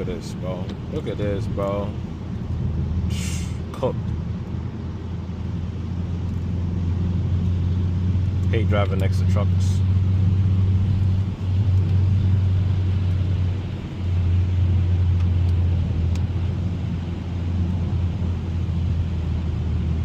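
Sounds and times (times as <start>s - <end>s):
engine hum: 0.0s - 20.0s
tyre and road noise: 0.0s - 20.0s.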